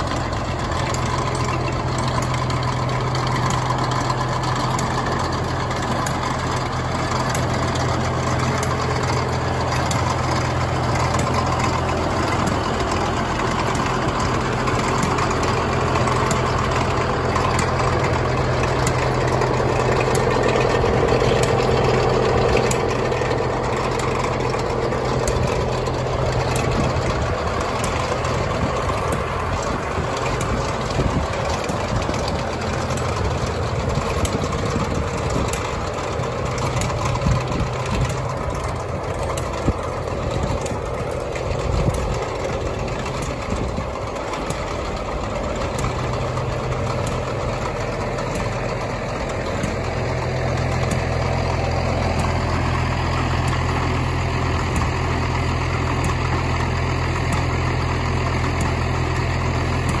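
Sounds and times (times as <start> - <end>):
tractor engine idling: 0.0 - 60.0.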